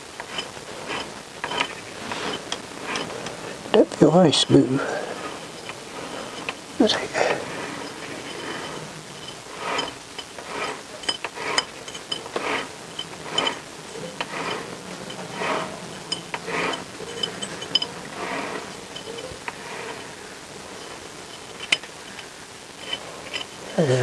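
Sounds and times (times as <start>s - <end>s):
clutch plates clinking and scraping: 0.0s - 24.0s.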